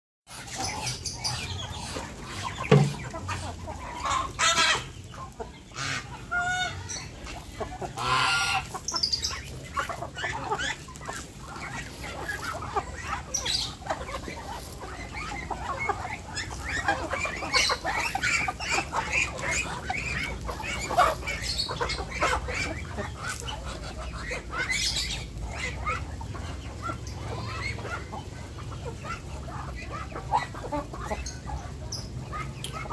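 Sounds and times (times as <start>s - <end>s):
chickens ducks and geese clucking: 0.3s - 32.9s.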